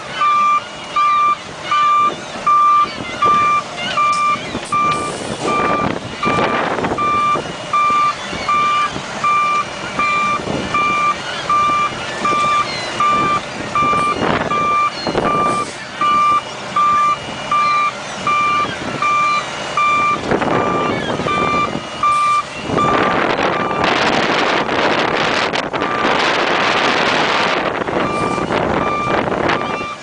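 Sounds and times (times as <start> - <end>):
truck engine: 0.0 - 30.0
backup alarm beeping: 0.1 - 24.8, 25.8 - 30.0
wind noise: 1.2 - 30.0.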